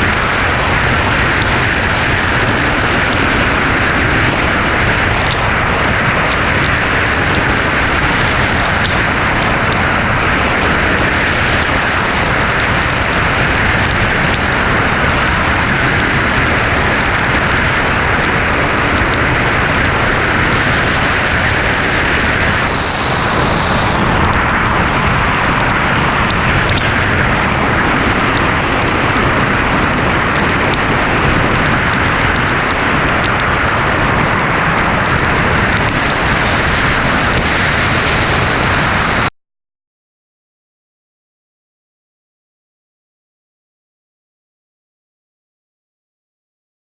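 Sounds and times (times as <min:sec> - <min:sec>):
heavy rain rushing: 0:00.0 - 0:39.3
low rumble: 0:00.0 - 0:39.3
wet road tyre noise: 0:00.0 - 0:39.3.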